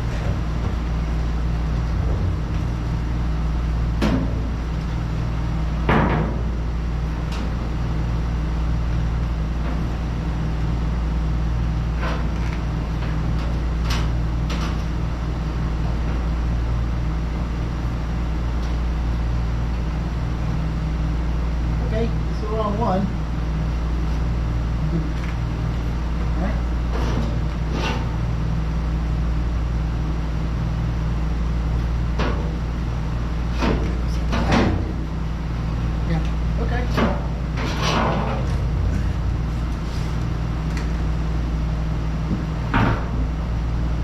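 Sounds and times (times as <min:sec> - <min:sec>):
low shop hum: 0:00.0 - 0:44.0.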